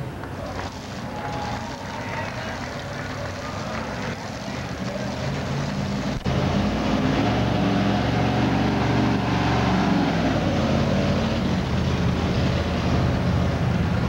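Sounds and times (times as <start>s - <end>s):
engine running at low speed: 0.0s - 14.0s.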